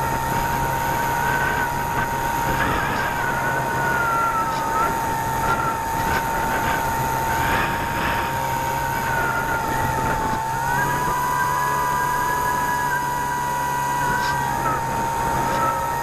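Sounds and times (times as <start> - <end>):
model plane motor whining: 0.0 - 16.0
wind on microphone: 0.0 - 16.0.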